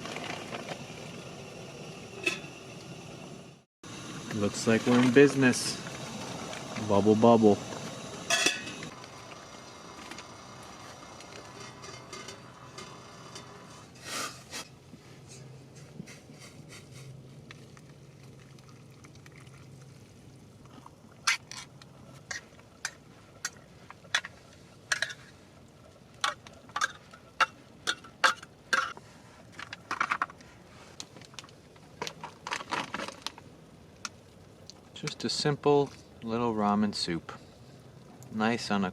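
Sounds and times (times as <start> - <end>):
pot of water bubbling: 0.0 - 30.4, 31.0 - 38.6.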